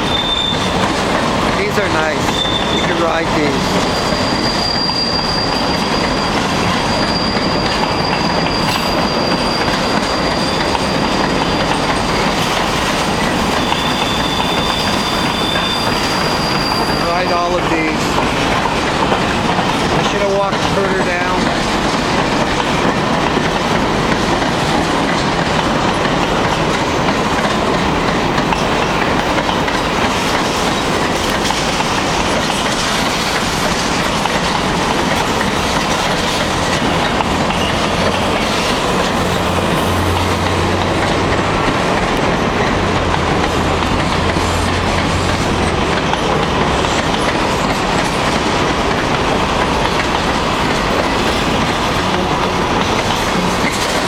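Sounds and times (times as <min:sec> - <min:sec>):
freight train wheels clattering: 0:00.0 - 0:54.0.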